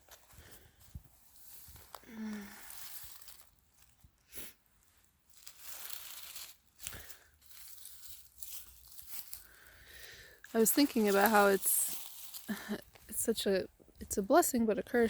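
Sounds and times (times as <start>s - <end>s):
footsteps crunching through dry leaves: 0.0s - 4.0s, 4.9s - 13.0s.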